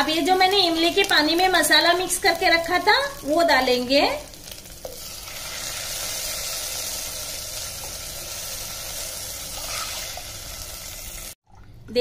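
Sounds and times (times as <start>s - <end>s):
liquid pouring and sizzling: 0.0s - 11.4s.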